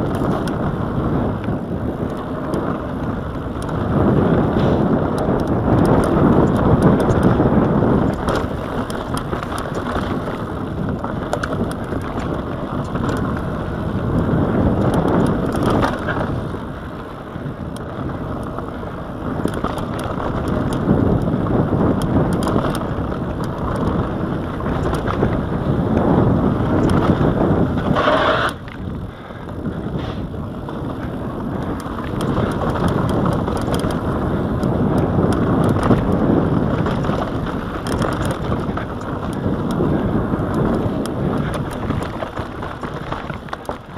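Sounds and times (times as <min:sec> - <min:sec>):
bike rattling: 0:00.0 - 0:43.9
wind buffeting microphone: 0:00.0 - 0:43.9.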